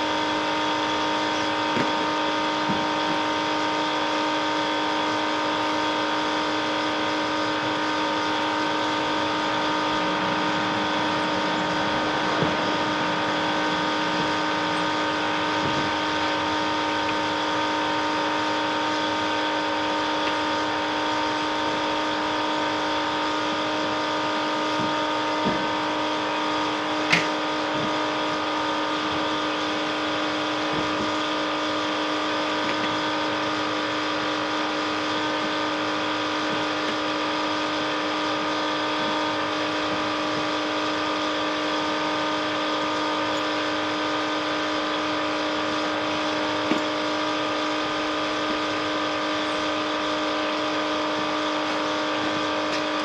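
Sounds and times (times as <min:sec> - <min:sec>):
small electric motor humming: 0:00.0 - 0:53.0.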